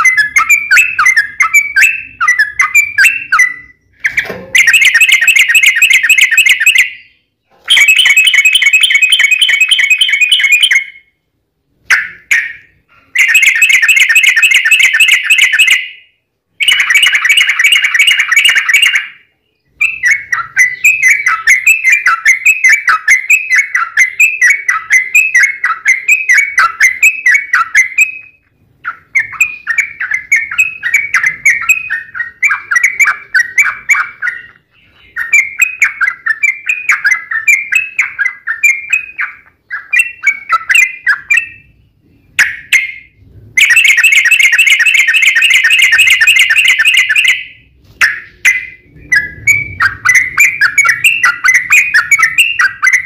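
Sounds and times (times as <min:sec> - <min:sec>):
bulbul song: 0:00.0 - 0:53.0.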